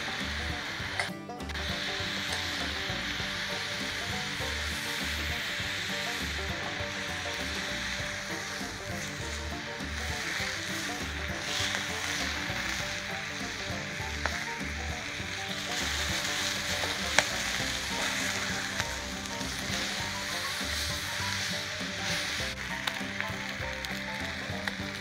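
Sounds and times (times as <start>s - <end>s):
chicken sizzling on a griddle: 0.0s - 25.0s
sharp popping of frying meat: 0.0s - 25.0s.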